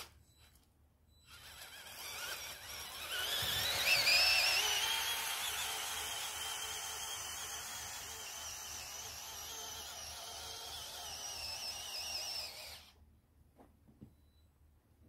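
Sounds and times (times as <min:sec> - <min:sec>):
toy electric motors whining: 0:00.0 - 0:13.0.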